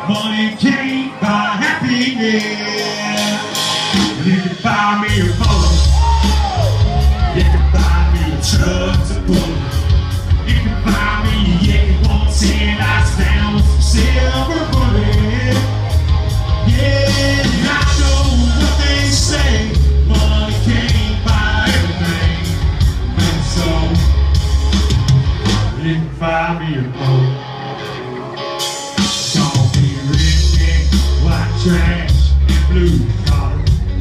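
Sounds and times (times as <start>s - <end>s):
man singing: 0.0s - 24.2s, 25.6s - 27.4s, 29.0s - 34.0s
country-rock band playing: 0.0s - 34.0s.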